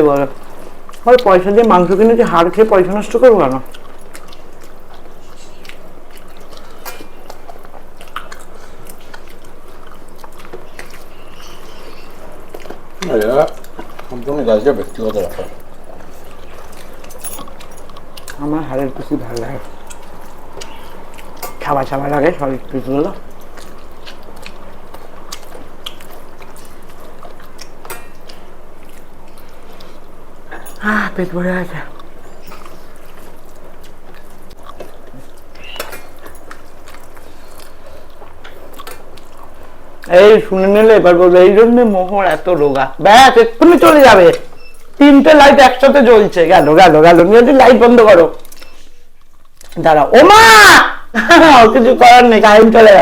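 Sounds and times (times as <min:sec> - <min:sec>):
wet chewing mouth clicks: 0:00.0 - 0:46.8, 0:47.5 - 0:49.9
steady background hiss: 0:00.0 - 0:53.0.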